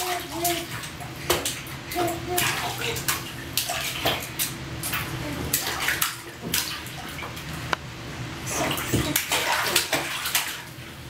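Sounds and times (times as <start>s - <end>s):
baby splashing bathwater: 0.0s - 7.6s, 8.4s - 11.0s.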